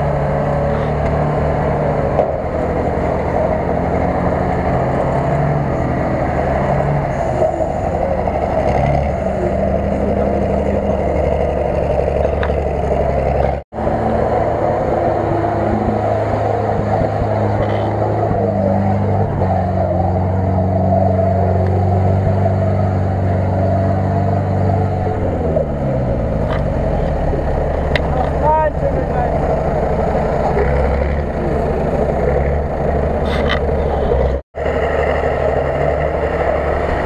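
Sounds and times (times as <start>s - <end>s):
off-road engine revving in mud: 0.0s - 37.0s.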